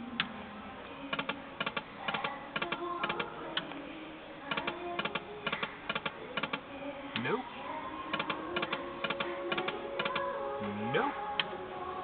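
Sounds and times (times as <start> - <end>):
faint machine tune: 0.0 - 12.0.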